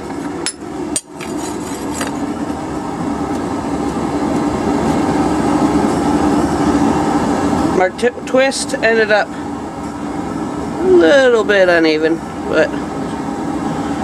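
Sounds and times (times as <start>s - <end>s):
forge air blower humming: 0.0s - 14.0s.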